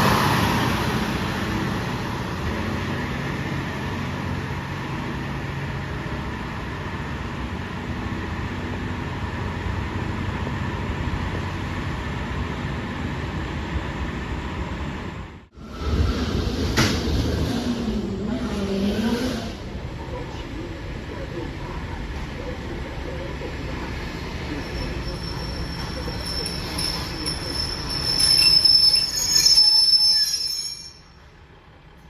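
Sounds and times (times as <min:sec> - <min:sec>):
diesel train rumbling: 0:00.0 - 0:32.0.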